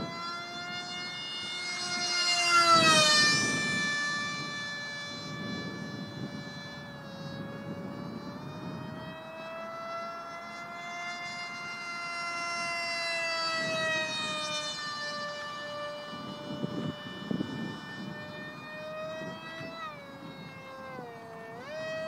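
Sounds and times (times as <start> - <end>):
model jet motor whining: 0.0 - 22.0.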